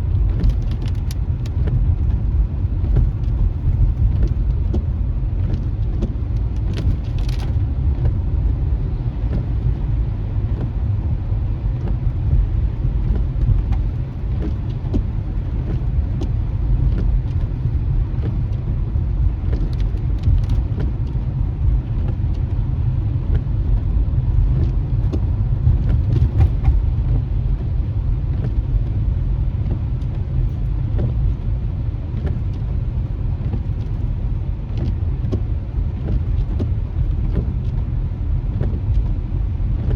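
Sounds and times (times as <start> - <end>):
car road rumble inside cabin: 0.0 - 39.9.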